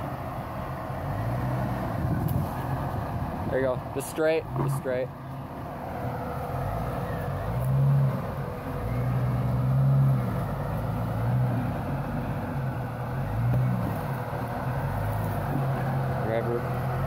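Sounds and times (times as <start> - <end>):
engine revving under light throttle: 0.0 - 17.0.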